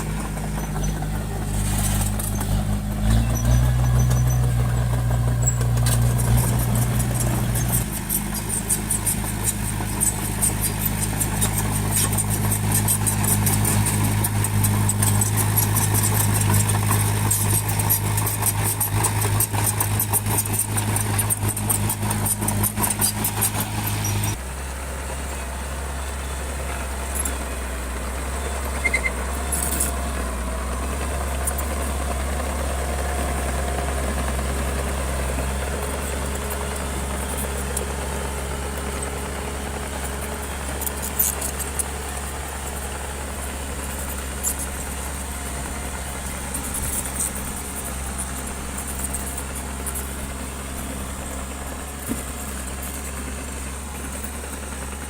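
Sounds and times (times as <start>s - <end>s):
rapid clatter: 0.0s - 24.4s, 26.7s - 55.0s
heavy diesel machinery engine: 0.0s - 55.0s.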